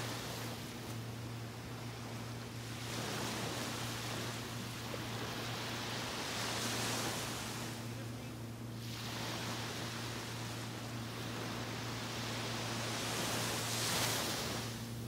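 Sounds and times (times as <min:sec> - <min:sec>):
small waves washing onto sand: 0:00.0 - 0:15.0
steady low hum: 0:00.0 - 0:15.0.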